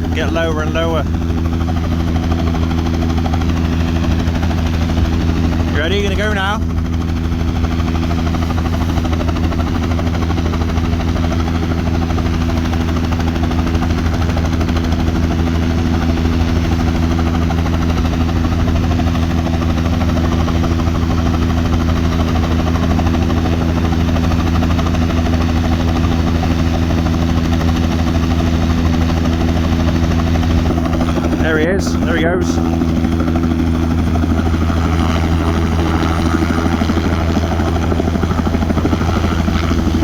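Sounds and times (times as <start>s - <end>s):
helicopter engine and rotor drone: 0.0s - 40.0s.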